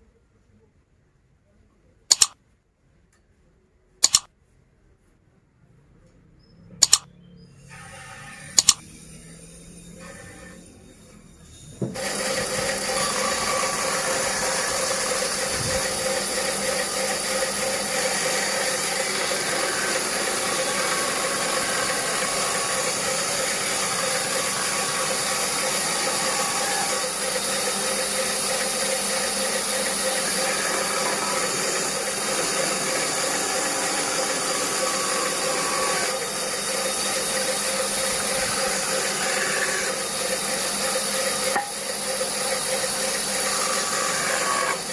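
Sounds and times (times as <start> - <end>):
band saw cutting wood: 7.6 - 44.9.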